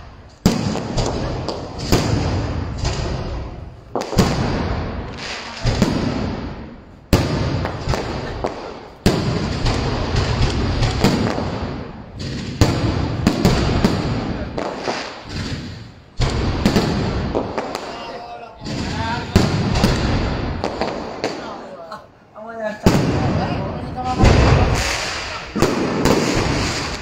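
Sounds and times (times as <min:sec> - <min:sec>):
fireworks bursting with echoing bangs: 0:00.0 - 0:22.2, 0:22.8 - 0:27.0.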